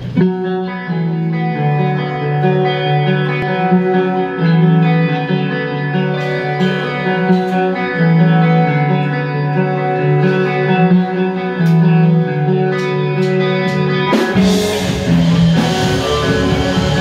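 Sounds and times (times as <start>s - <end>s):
electric guitars sustained notes: 0.0s - 17.0s
rock band playing: 0.0s - 17.0s.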